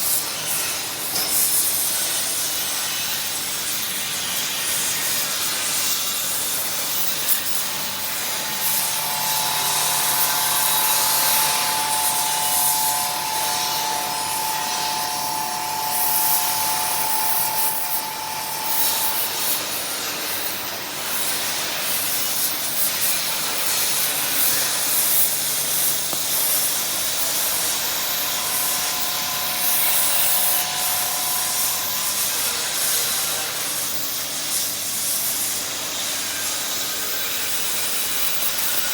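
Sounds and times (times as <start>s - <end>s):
arc welding crackling hiss: 0.0s - 38.9s.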